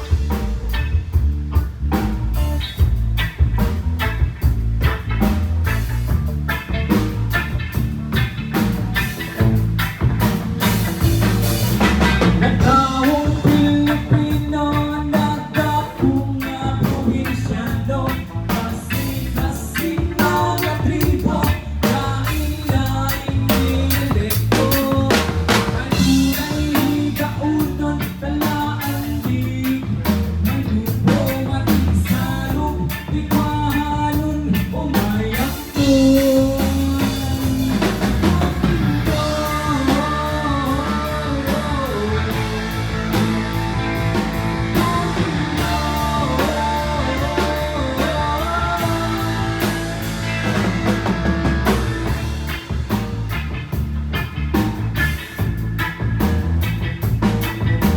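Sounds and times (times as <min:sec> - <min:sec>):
drum kit beat: 0:00.0 - 0:57.9
live band playing: 0:00.0 - 0:57.9.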